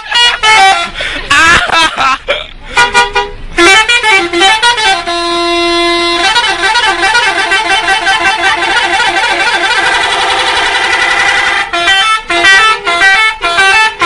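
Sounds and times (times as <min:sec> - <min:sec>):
bus musical horn tune: 0:00.0 - 0:01.6, 0:02.6 - 0:14.0.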